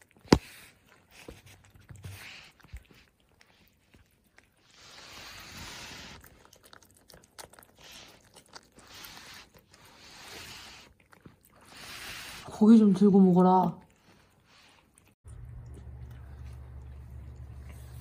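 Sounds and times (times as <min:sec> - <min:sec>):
cats chewing and licking: 0:00.0 - 0:18.0.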